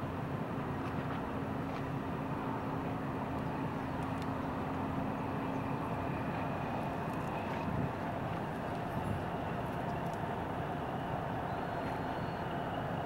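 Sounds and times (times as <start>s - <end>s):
ship passing rumble and hum: 0.0s - 13.0s.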